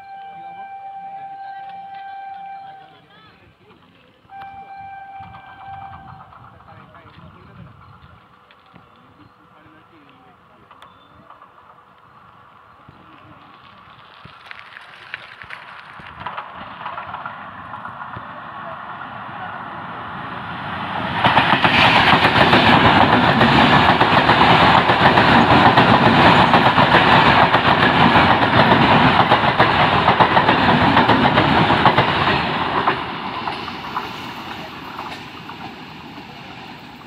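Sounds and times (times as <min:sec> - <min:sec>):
train wheels rushing on rail: 0:04.4 - 0:37.0.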